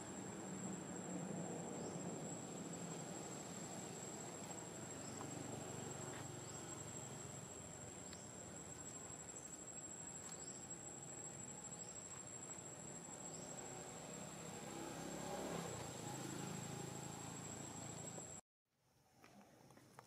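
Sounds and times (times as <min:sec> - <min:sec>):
insect high-pitched drone: 0:00.0 - 0:18.4.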